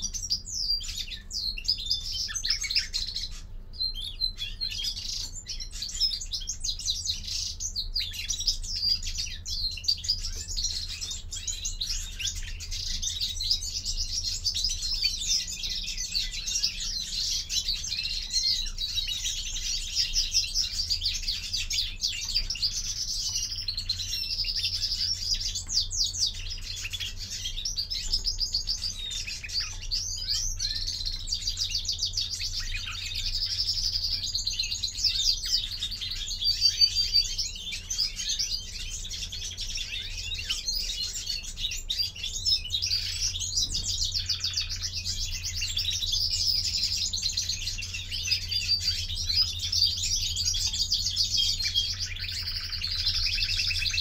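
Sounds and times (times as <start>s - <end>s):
finch twittering trills: 0.0s - 54.0s.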